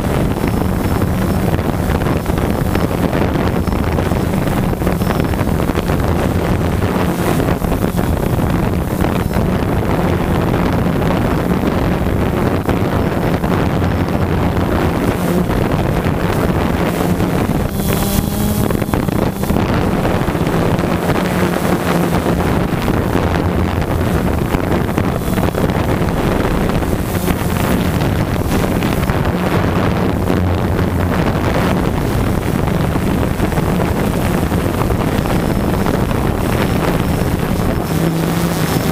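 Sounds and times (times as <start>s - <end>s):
drone motors and propellers humming: 0.0s - 38.9s
wind noise on microphone: 0.0s - 38.9s.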